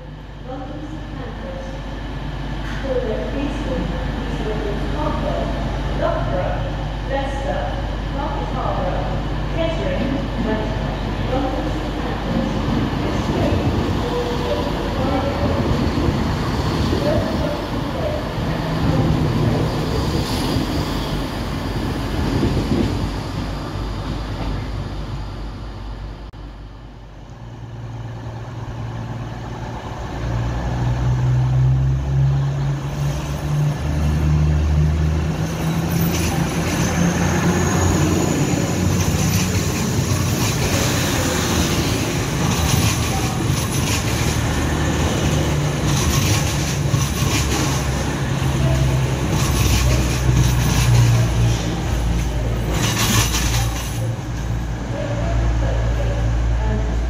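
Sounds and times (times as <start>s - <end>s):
diesel train engine drone: 0.0s - 57.0s
train wheels rumbling and clattering: 2.0s - 26.4s, 28.0s - 57.0s.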